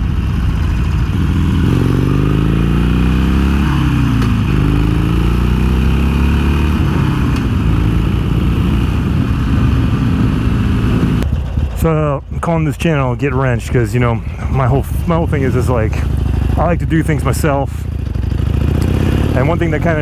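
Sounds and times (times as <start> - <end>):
motorcycle engine shifting gears: 0.0 - 11.8, 14.2 - 20.0.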